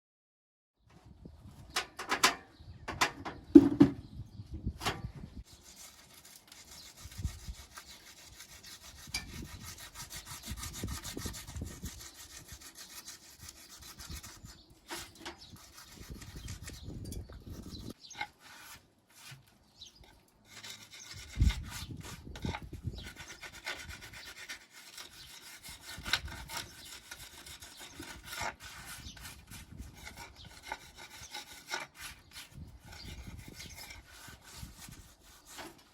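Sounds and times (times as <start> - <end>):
hand tool scraping stone mortar: 5.4 - 35.9.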